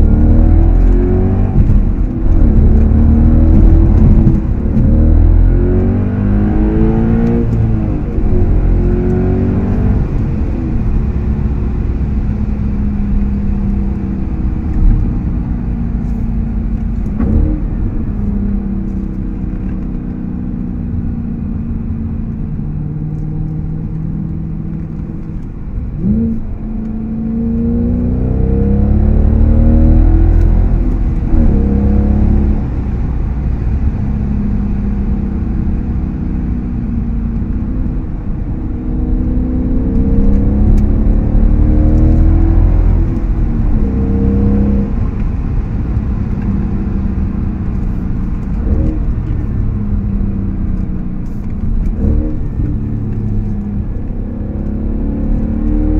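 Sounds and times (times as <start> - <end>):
deep exhaust rumble: 0.0 - 55.8
car engine accelerating through gears: 0.0 - 55.9.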